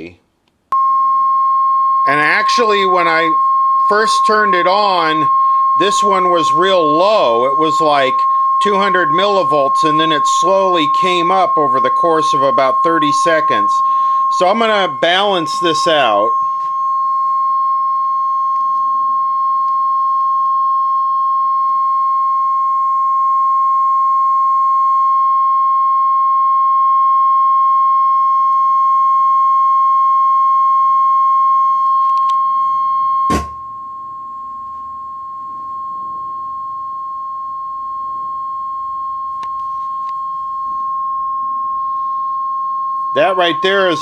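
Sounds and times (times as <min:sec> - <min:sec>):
steady test tone through speakers: 0:00.0 - 0:44.0.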